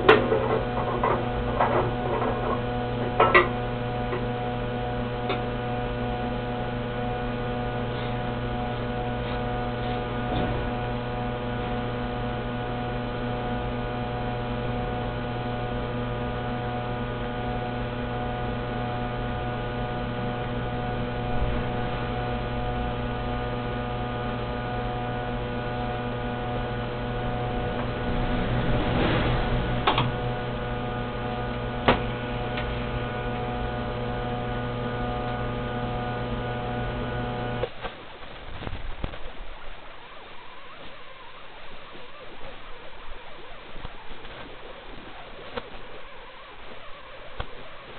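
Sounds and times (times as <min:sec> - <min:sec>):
punch machine electrical hum: 0:00.0 - 0:47.9.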